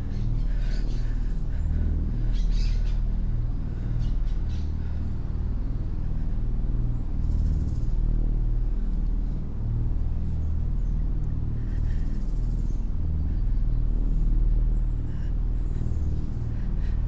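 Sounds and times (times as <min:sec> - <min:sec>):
birds chirping: 0:00.0 - 0:08.7, 0:09.9 - 0:17.0
low steady rumble: 0:00.0 - 0:17.0.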